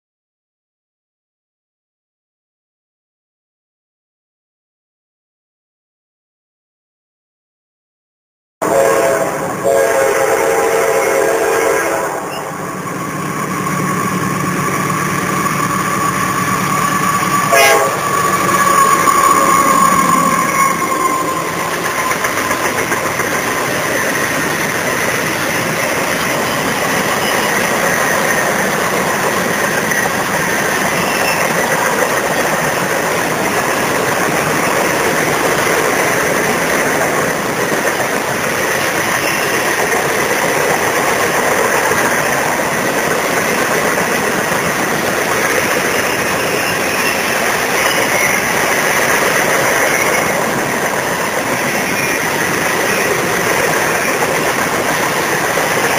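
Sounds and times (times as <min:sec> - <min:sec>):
freight train wheels on rail: 0:08.6 - 0:55.9.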